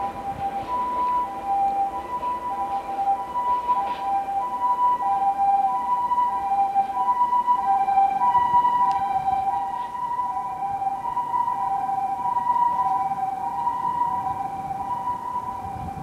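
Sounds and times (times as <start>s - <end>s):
level crossing alarm tones: 0.0s - 16.0s.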